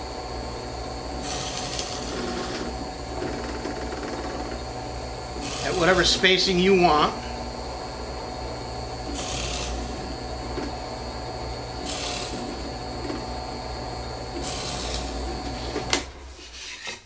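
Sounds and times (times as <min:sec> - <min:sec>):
drill bit rasping through wood: 0:00.0 - 0:17.0
drill press humming: 0:00.0 - 0:17.0.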